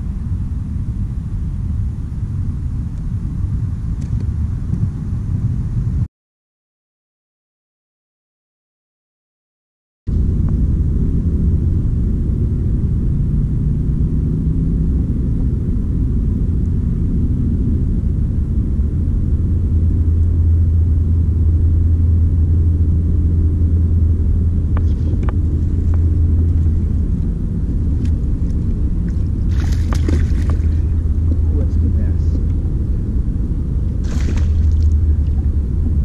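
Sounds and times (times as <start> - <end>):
steady low rumble: 0.0 - 6.1, 10.1 - 36.0.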